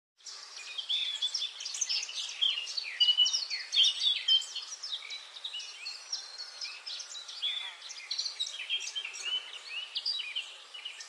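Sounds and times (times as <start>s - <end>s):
songbirds chirping and singing: 0.2s - 11.0s.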